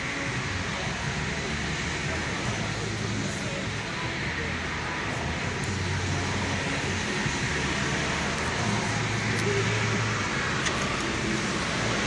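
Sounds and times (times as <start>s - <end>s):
low engine drone: 0.0s - 12.0s
road noise inside car: 0.0s - 12.0s.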